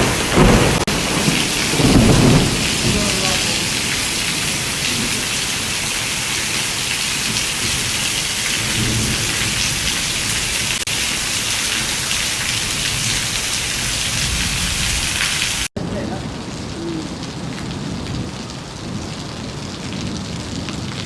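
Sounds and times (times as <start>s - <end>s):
low thunder rumble: 0.0s - 6.6s, 7.2s - 10.8s, 12.6s - 21.0s
heavy rain pouring: 0.0s - 21.0s.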